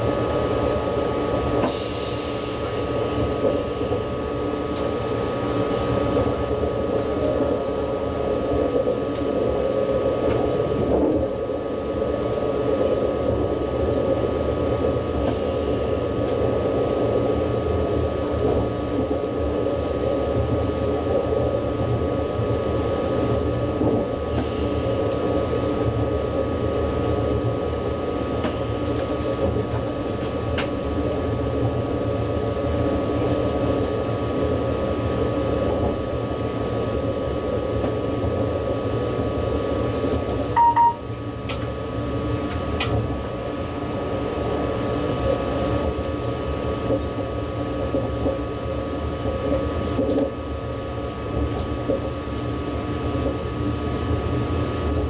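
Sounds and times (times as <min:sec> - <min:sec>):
high-speed train running noise: 0:00.0 - 0:55.0.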